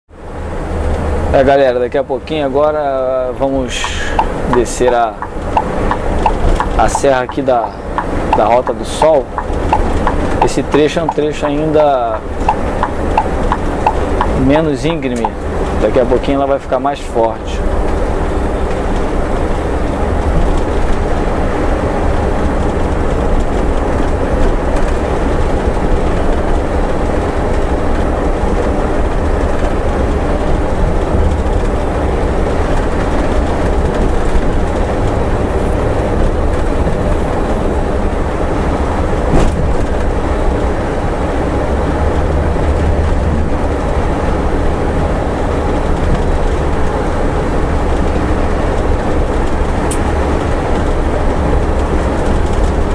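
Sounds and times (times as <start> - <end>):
bus engine and road noise: 0.1 - 52.9.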